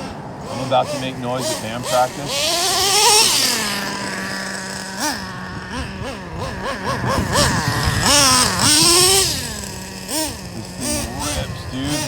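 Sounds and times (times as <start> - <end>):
model engine idling and revving: 0.0 - 12.0.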